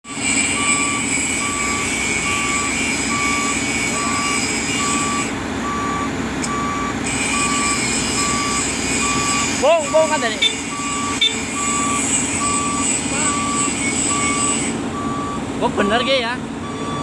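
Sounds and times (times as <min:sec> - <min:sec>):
excavator engine running: 0:00.0 - 0:17.0
travel alarm beeping: 0:00.0 - 0:17.0.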